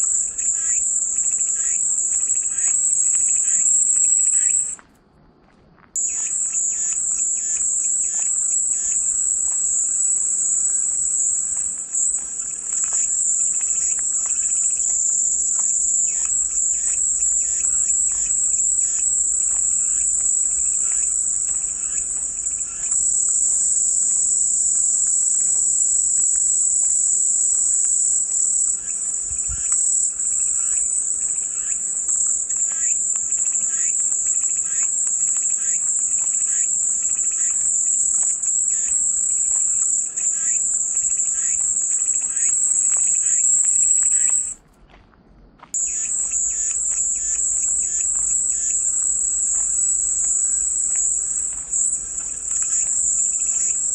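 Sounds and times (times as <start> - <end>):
cicadas buzzing: 0.0 - 4.8, 6.0 - 44.6, 45.7 - 53.9.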